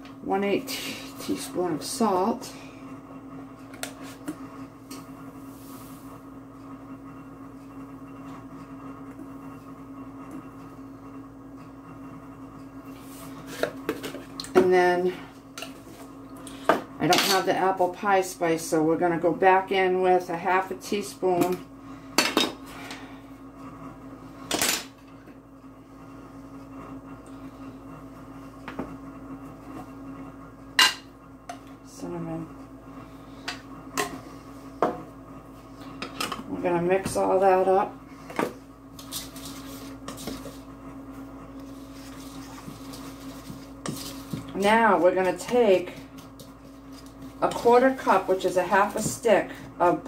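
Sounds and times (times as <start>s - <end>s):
low electrical hum: 0.0s - 50.0s.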